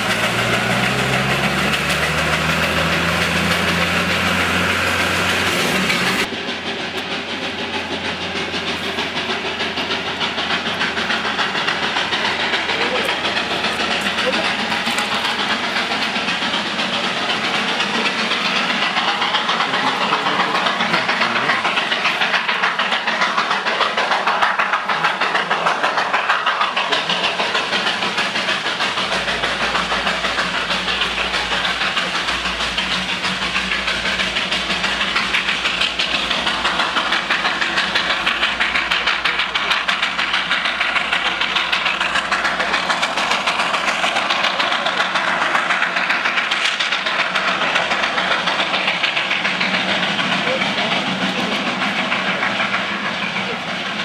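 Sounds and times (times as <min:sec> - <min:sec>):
steam hiss: 0:00.0 - 0:54.0
steam locomotive exhaust beats: 0:00.0 - 0:54.0.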